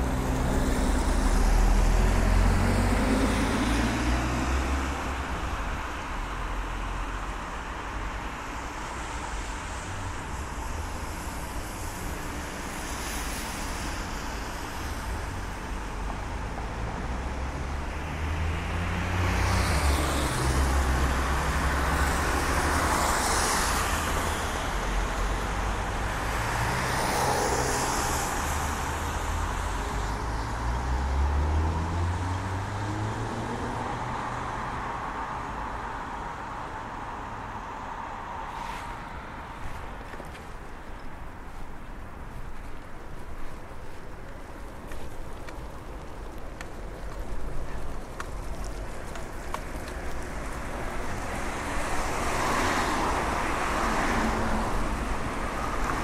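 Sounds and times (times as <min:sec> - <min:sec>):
cars passing on wet road: 0:00.0 - 0:56.0.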